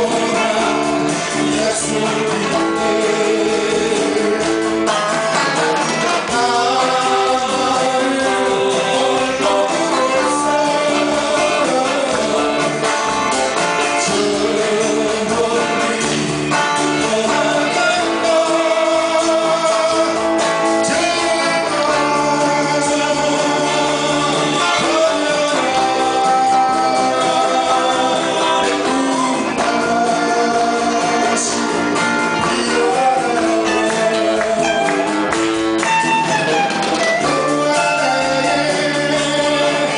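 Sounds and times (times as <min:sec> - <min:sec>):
live band playing pop: 0:00.0 - 0:39.9
person singing: 0:00.0 - 0:39.9.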